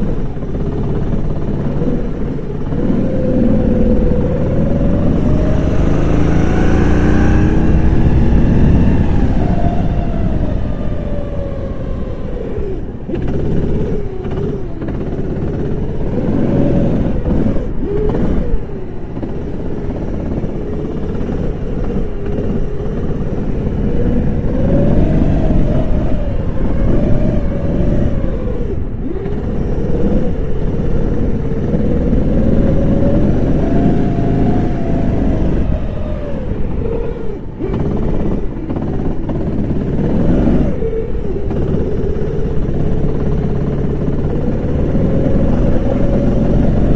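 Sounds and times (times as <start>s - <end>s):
go-kart engine revving: 0.0s - 46.9s.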